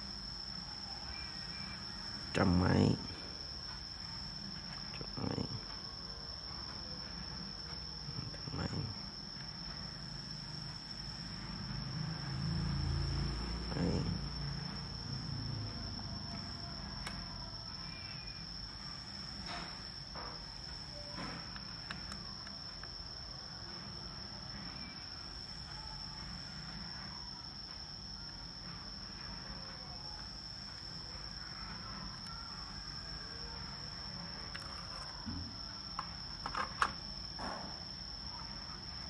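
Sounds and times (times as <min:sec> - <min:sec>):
high-pitched cricket-like trill: 0:00.0 - 0:39.0.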